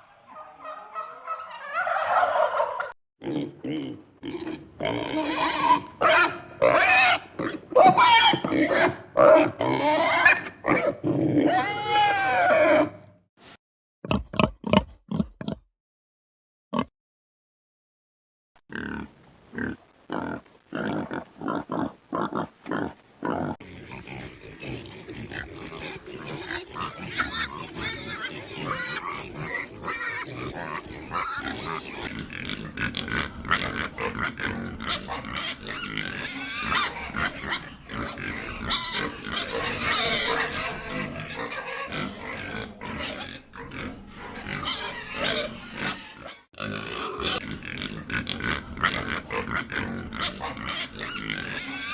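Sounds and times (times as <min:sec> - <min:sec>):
pigs calling in a din: 0:00.0 - 0:13.1, 0:18.7 - 0:51.9
pig grunts: 0:03.2 - 0:12.1, 0:18.7 - 0:51.9.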